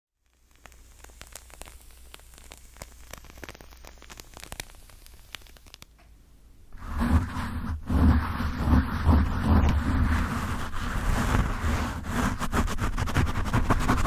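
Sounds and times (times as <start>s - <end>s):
candle crackling and ticking: 0.1s - 6.1s, 6.8s - 14.0s
low steady hum: 0.2s - 14.0s
scratching on microphone cover: 0.7s - 5.8s, 6.8s - 14.0s.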